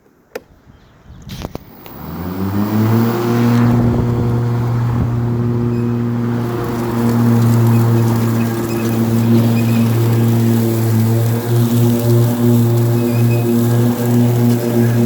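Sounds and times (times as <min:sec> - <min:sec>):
electric motors whining: 0:01.4 - 0:15.0.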